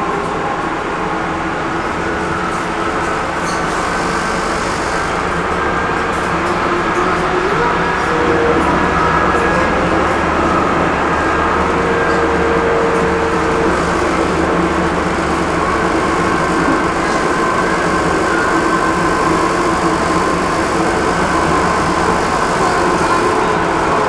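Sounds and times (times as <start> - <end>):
faint steady whine: 0.0 - 24.0
tram wheels rumbling on rail: 0.0 - 24.0.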